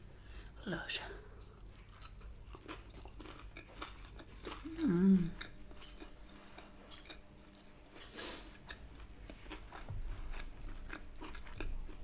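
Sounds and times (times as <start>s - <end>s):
person chewing crispy food: 1.4s - 12.0s.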